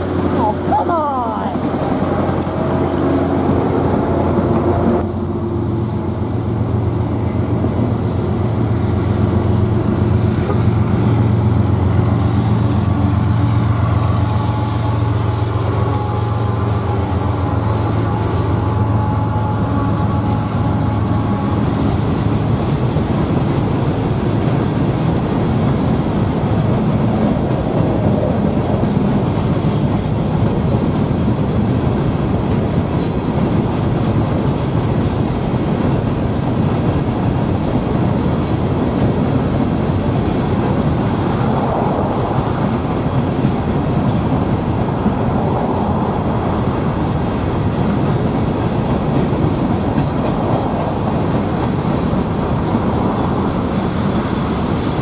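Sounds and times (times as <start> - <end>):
diesel locomotive engine: 0.0 - 55.0
freight locomotives droning: 0.0 - 55.0
steel wheels rumbling on rail: 0.0 - 55.0.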